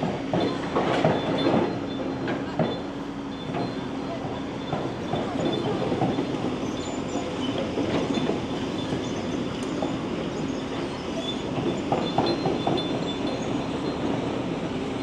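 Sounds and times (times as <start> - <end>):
excavator mechanical rumble: 0.0 - 15.0.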